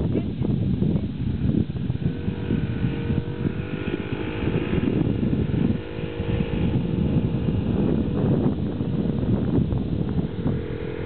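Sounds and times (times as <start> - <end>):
small motorbike engine running: 0.0 - 11.0
wind rumble on microphone: 0.0 - 11.0.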